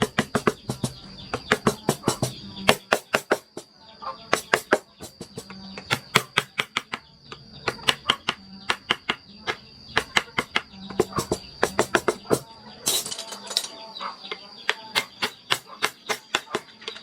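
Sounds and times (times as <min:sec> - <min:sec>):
mallet striking chisel into wood: 0:00.0 - 0:03.7, 0:04.3 - 0:12.4, 0:14.6 - 0:16.9.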